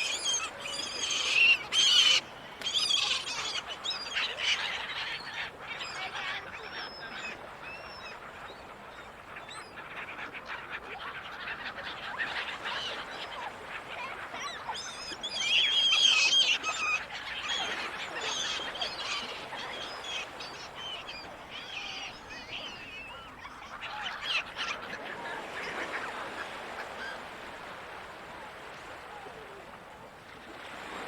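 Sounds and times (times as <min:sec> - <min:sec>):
gulls calling: 0:00.0 - 0:09.6, 0:12.2 - 0:29.3.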